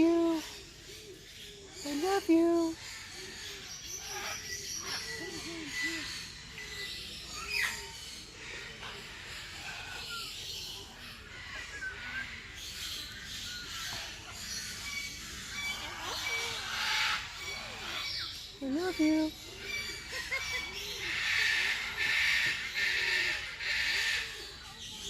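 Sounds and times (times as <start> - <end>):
parrots and birds calling: 0.0 - 25.0.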